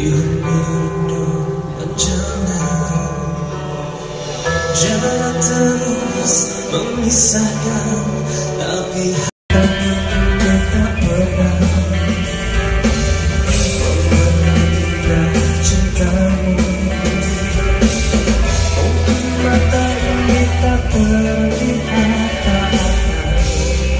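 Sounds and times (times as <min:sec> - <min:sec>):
live band playing rock ballad: 0:00.0 - 0:23.9.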